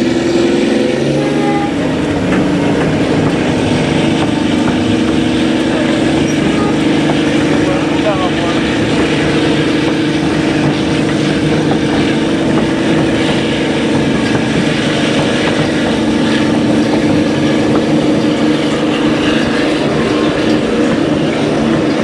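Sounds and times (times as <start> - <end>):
diesel locomotive engine drone: 0.0 - 22.0
train wheels rumbling on rails: 0.0 - 22.0.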